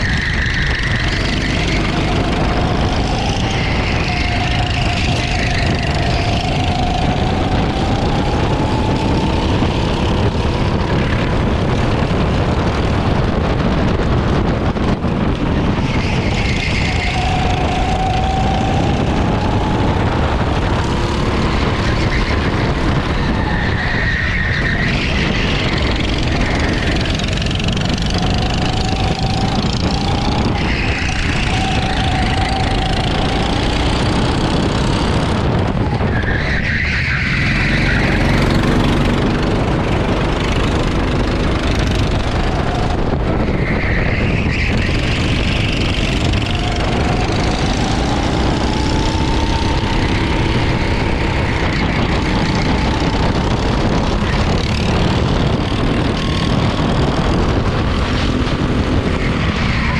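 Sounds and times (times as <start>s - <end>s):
kart engine revving: 0.0s - 59.9s
wind and road noise: 0.0s - 59.9s.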